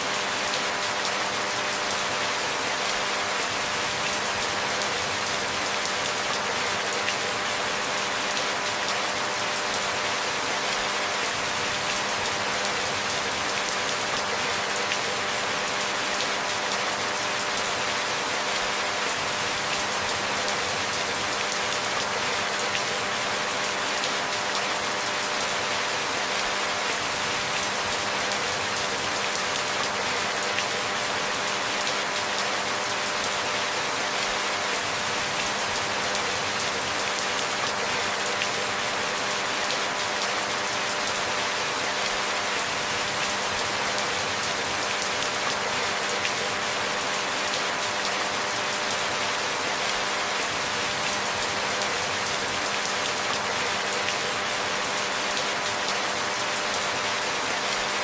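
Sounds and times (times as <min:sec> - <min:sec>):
steady rainfall patter: 0:00.0 - 0:58.0.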